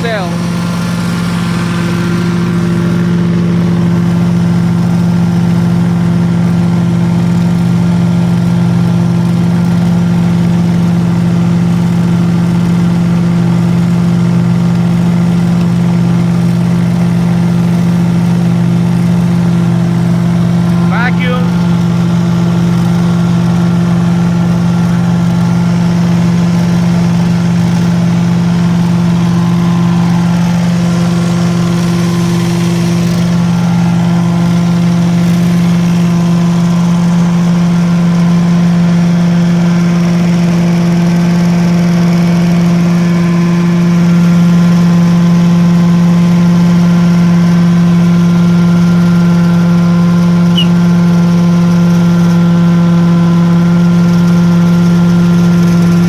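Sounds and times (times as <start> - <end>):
carpet cleaning unit loud hum: 0.0 - 56.0.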